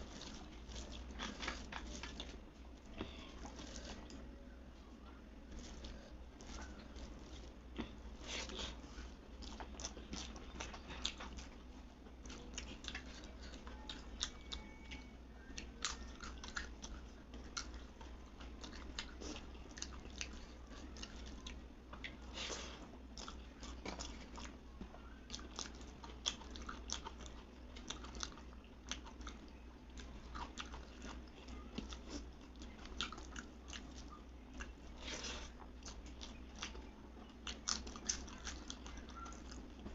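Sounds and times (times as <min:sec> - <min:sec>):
wet chewing and crunchy bites: 0:00.0 - 0:04.3, 0:05.5 - 0:24.6, 0:25.2 - 0:39.9
steady low hum: 0:00.0 - 0:39.9.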